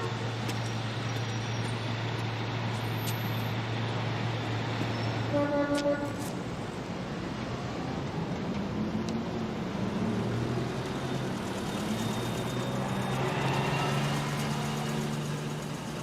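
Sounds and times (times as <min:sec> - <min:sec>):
continuous background noise: 0:00.0 - 0:16.0.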